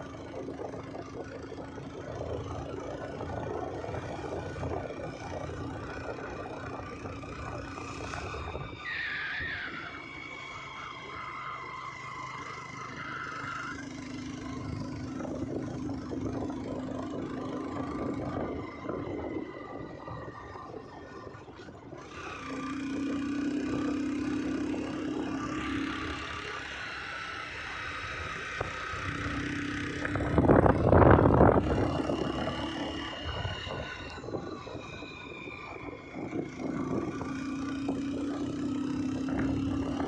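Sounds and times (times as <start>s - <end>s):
vehicle engine whining: 0.0s - 40.0s.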